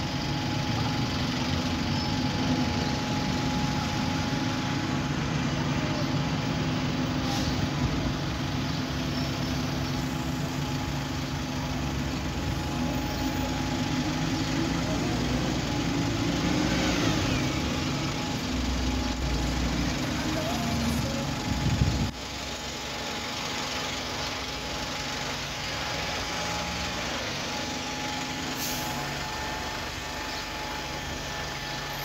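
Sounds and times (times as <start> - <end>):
diesel bus engines: 0.0 - 32.0.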